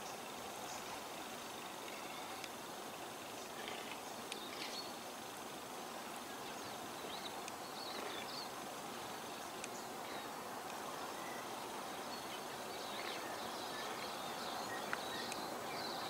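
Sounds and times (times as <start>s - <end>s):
faint bird chirps: 0.0s - 2.5s, 3.3s - 5.0s, 6.2s - 16.0s
steady outdoor hiss: 0.0s - 16.0s.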